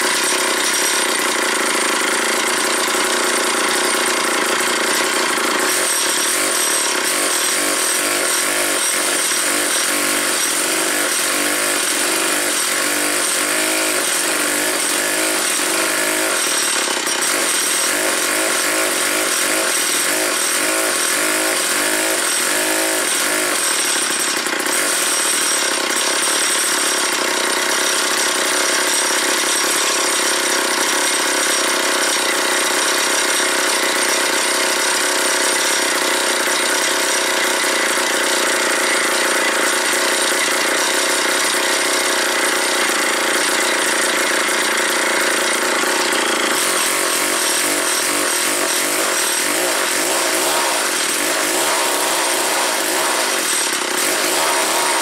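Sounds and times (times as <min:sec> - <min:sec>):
chainsaw idling: 0:00.0 - 0:55.0.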